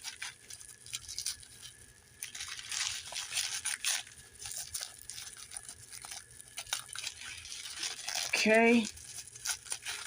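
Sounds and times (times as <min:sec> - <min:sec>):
packing tape peeling and crinkling: 0:00.0 - 0:10.0.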